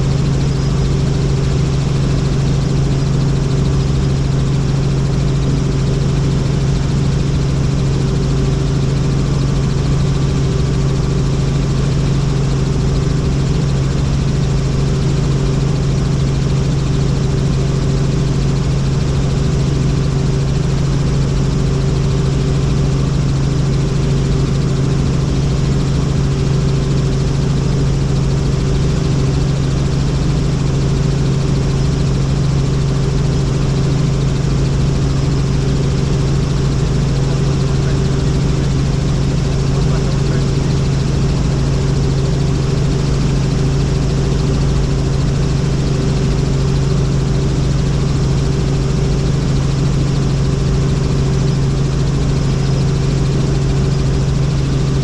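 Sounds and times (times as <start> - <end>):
helicopter drone: 0.0 - 55.0.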